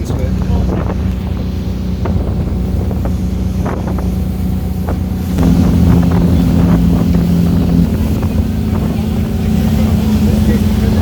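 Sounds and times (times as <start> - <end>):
motorboat engine running: 0.0 - 11.0
wind buffeting microphone: 0.0 - 11.0.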